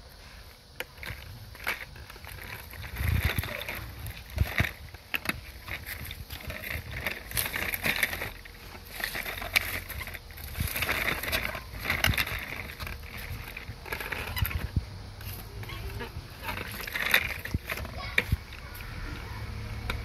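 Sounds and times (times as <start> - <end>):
baby walker wheels rattling: 0.8 - 20.0.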